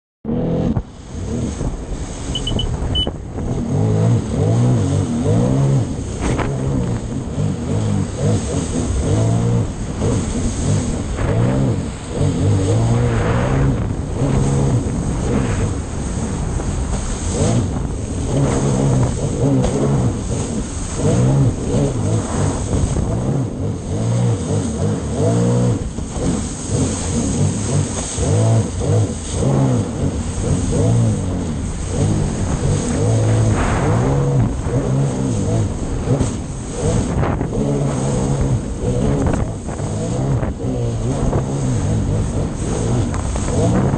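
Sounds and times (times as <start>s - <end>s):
personal watercraft engine running: 0.2s - 43.9s
wind: 0.2s - 43.9s
rushing water: 0.5s - 43.9s.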